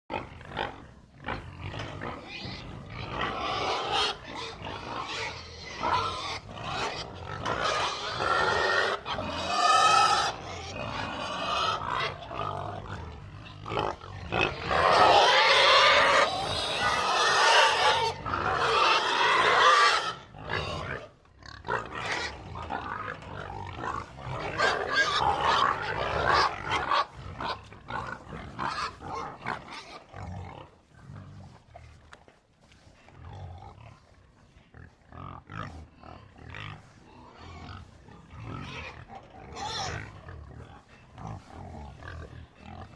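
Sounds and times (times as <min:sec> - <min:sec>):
pigs squealing: 0:00.1 - 0:30.8, 0:34.8 - 0:42.9
pigs grunting: 0:00.1 - 0:42.9.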